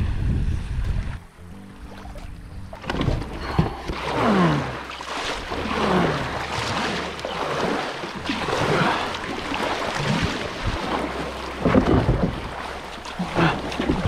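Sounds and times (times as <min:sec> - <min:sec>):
kayak paddle strokes: 0:00.8 - 0:14.0
rushing river water: 0:01.2 - 0:14.0.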